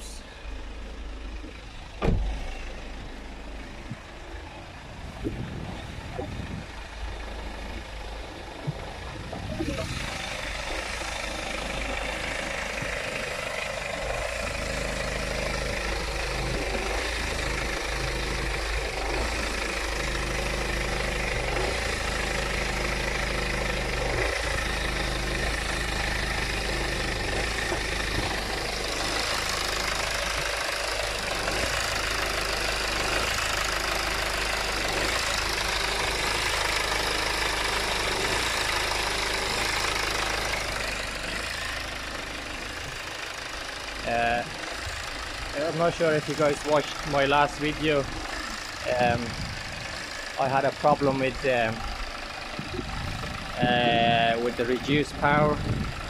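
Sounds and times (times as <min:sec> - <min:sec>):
diesel engine idling roughly: 0:00.0 - 0:56.0.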